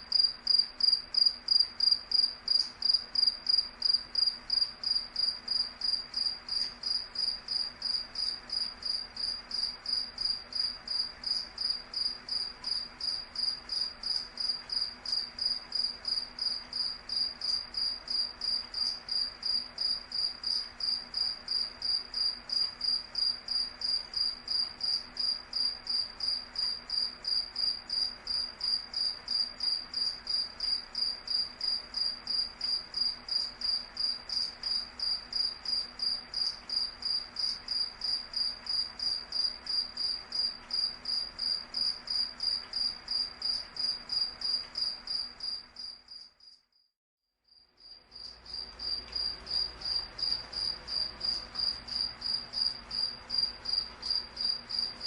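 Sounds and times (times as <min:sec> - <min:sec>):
cricket chirping: 0:00.1 - 0:46.9, 0:47.5 - 0:55.0.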